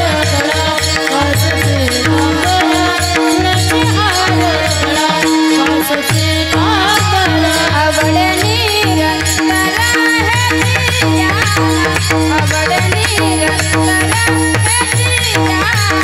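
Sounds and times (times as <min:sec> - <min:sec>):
drum beating steady rhythm: 0:00.0 - 0:16.0
woman singing: 0:00.0 - 0:16.0.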